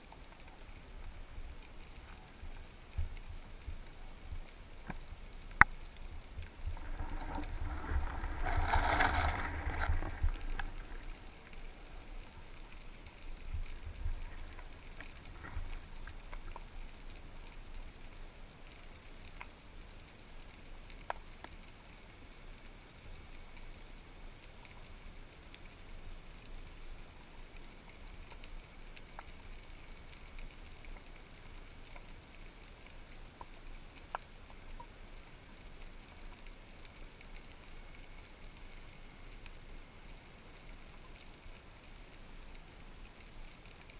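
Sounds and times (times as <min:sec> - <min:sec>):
faint underwater hiss: 0:00.0 - 0:43.9.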